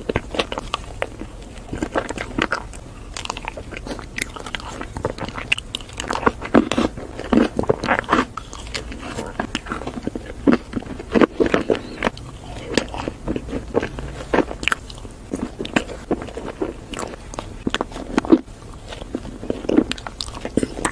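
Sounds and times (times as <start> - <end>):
eating ice cream crackles: 0.0 - 20.9.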